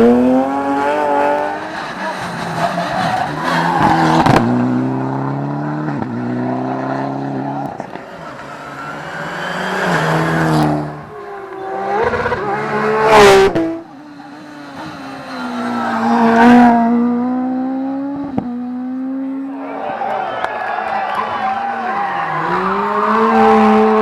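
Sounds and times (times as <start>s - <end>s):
cars passing close: 0.0s - 24.0s
rally car engines at full throttle: 0.0s - 24.0s.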